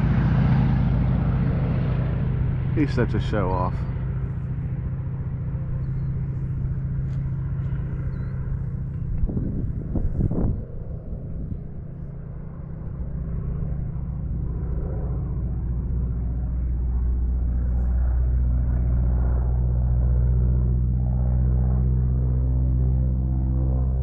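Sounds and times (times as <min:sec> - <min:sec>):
model plane engine droning: 0:00.0 - 0:24.0.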